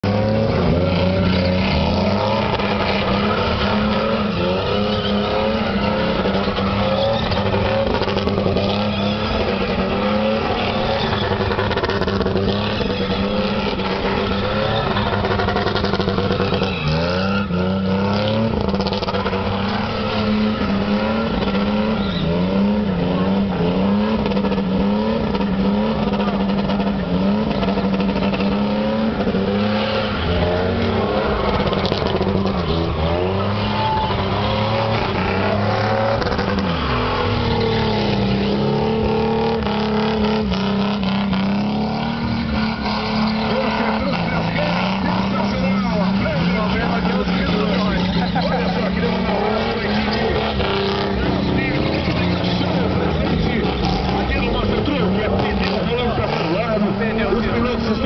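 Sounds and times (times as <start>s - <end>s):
car engine revving high: 0.0s - 58.0s.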